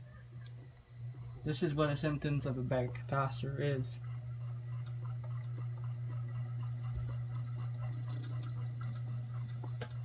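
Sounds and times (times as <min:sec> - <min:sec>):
ceiling fan motor humming: 0:00.0 - 0:10.0.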